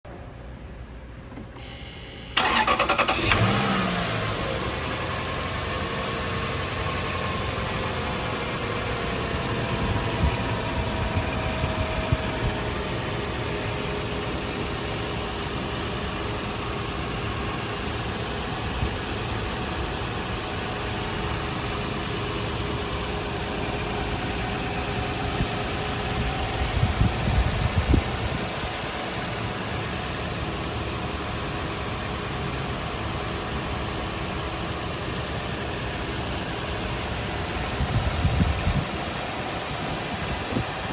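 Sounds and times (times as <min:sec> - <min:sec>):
car engine starting and idling: 0:01.2 - 0:40.9.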